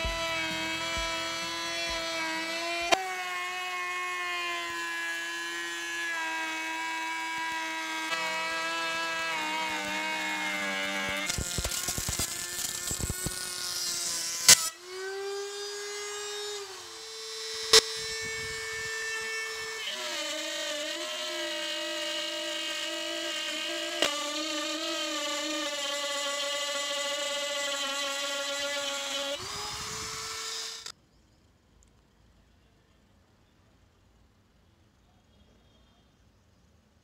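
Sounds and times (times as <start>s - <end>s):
rotary tool whining: 0.0s - 30.9s.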